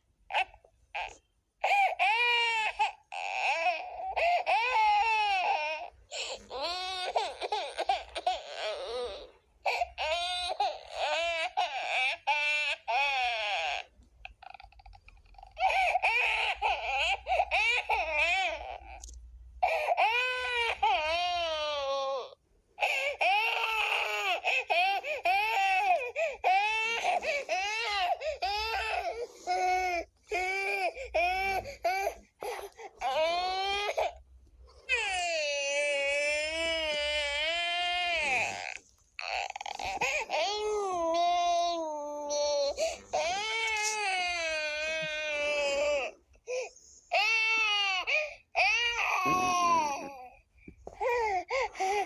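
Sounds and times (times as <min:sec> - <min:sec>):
baby crying: 0:00.3 - 0:34.2, 0:34.8 - 0:50.4.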